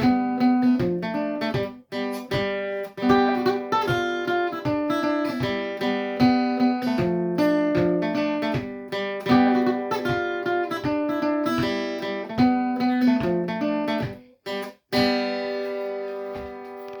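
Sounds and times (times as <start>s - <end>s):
acoustic guitar folk dance tune: 0.0s - 17.0s.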